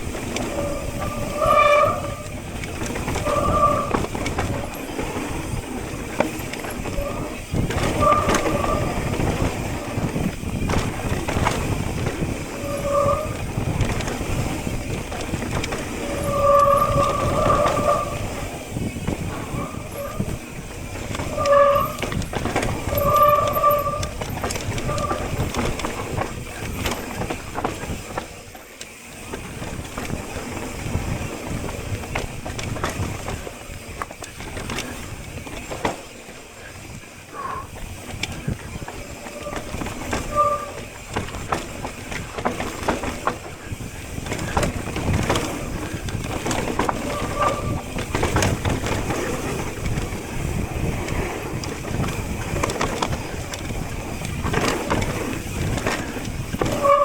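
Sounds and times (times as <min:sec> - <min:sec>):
bike tyres rumbling and rattling: 0:00.0 - 0:57.0.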